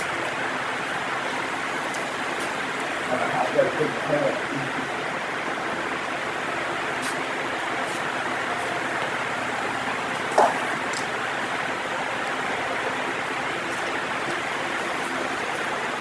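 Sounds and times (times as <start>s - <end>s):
room background hiss: 0.0s - 16.0s.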